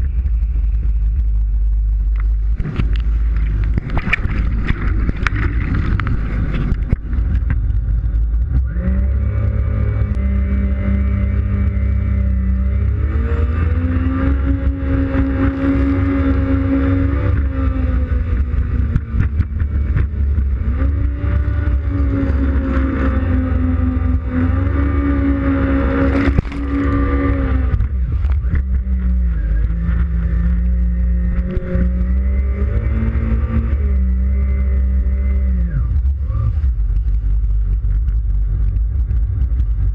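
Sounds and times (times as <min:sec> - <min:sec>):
low rumble: 0:00.0 - 0:39.9
personal watercraft engine revving: 0:00.0 - 0:39.9.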